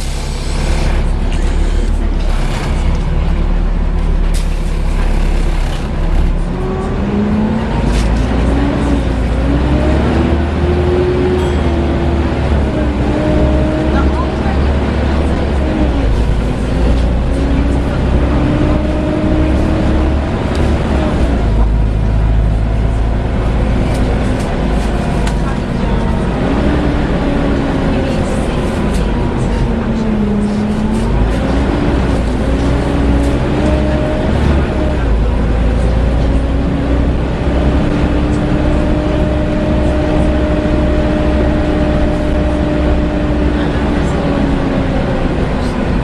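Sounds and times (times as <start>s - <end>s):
bus diesel engine running: 0.0s - 46.0s
engine cooling fan drone: 0.0s - 46.0s.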